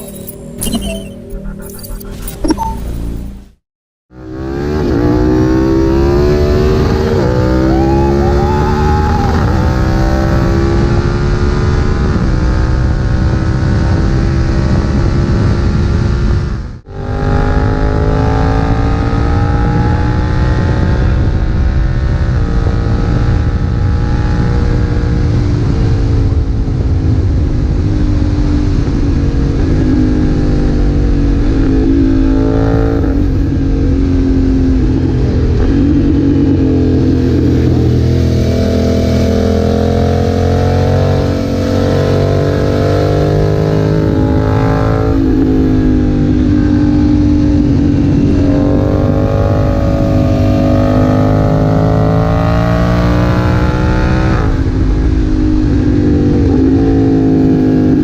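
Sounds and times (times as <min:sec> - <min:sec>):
motorcycle engine revving: 0:04.1 - 0:58.0.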